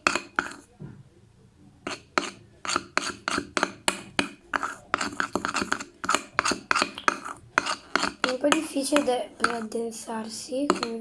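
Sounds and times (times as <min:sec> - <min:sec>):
spoon stirring slime in a bowl: 0:00.0 - 0:01.0, 0:01.8 - 0:11.0.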